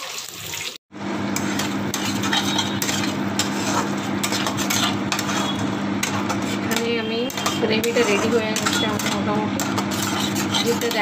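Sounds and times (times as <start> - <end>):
spatula scraping pan: 1.3 - 11.0.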